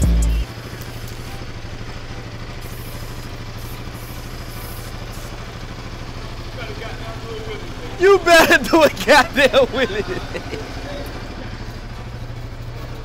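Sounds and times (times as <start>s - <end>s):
off-road engine idling: 0.0s - 13.0s.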